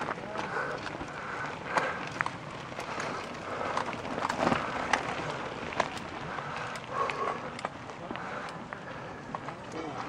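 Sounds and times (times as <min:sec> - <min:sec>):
bike tyres crunching over gravel: 0:00.0 - 0:10.0
clicks and knocks of stones: 0:00.0 - 0:10.0.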